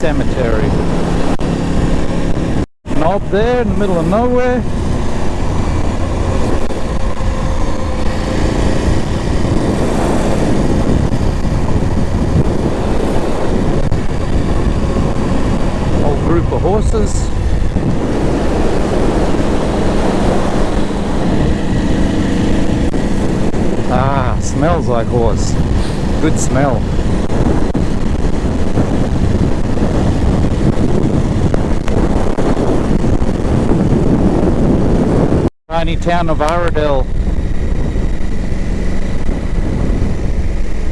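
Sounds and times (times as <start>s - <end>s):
motorcycle engine running: 0.0s - 35.4s, 36.0s - 40.9s
road noise: 0.0s - 40.9s
wind buffeting microphone: 0.0s - 40.9s.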